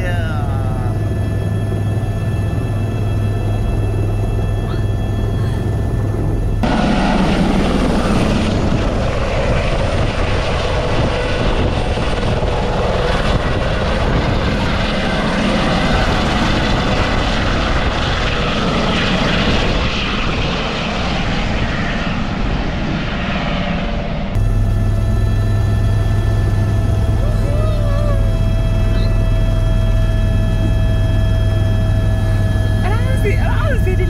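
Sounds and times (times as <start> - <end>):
helicopter rotor and turbine engine: 0.0 - 34.0.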